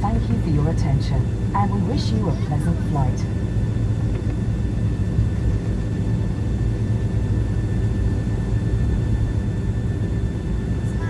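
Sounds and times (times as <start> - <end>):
engine and airframe rumble: 0.0 - 11.0.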